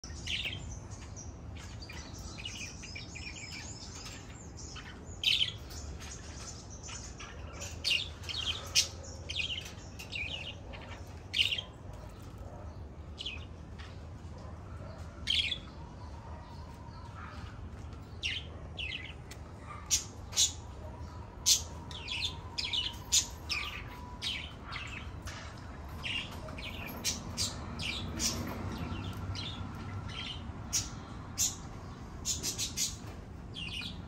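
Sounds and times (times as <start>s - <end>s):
songbirds chirping and twittering: 0.0s - 34.0s
steady low background hum: 0.0s - 34.0s.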